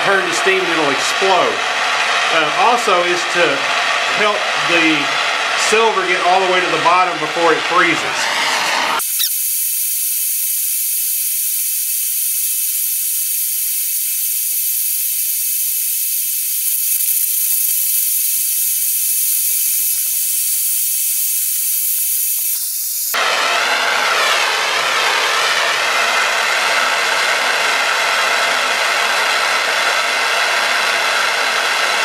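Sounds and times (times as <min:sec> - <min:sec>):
gas torch flame hissing: 0:00.0 - 0:32.0
lower rushing flame: 0:00.0 - 0:32.0.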